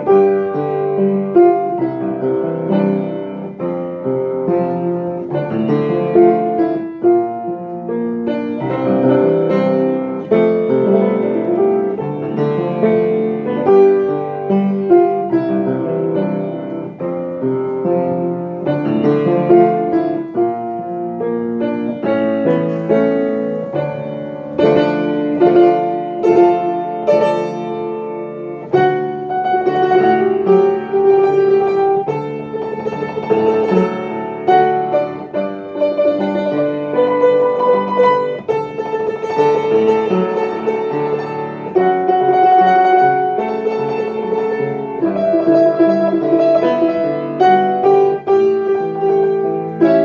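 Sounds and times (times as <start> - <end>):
solo piano: 0.0 - 50.0.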